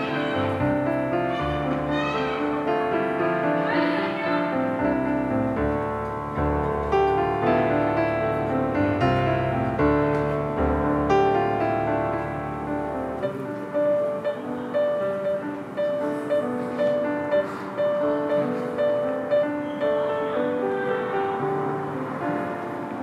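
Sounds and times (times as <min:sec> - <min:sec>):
gentle piano piece: 0:00.0 - 0:23.0.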